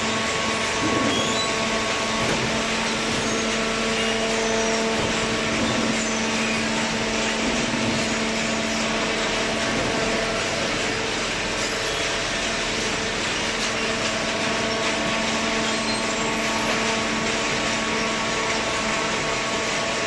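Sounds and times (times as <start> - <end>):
baler machine hum: 0.0 - 20.0.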